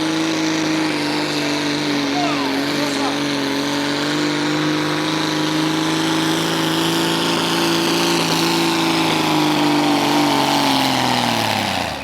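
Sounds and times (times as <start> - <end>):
tractor engine running flat out: 0.0 - 12.0.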